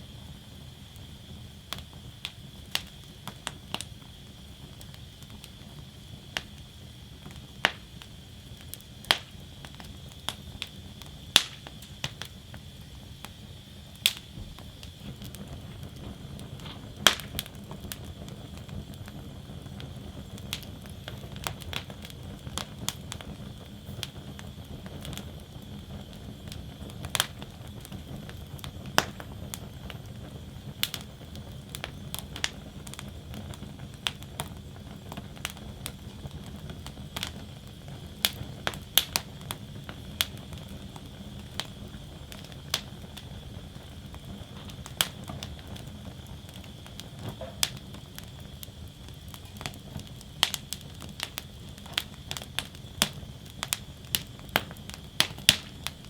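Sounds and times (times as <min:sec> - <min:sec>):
burning wood crackling: 0:00.0 - 0:56.0
flames rushing: 0:00.0 - 0:56.0.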